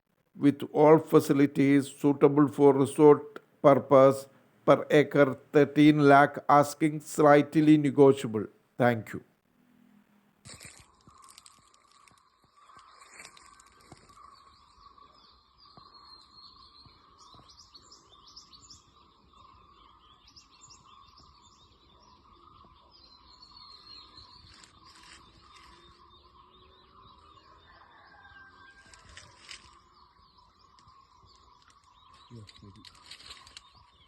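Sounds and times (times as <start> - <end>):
faint birds chirping: 0.2 - 34.0.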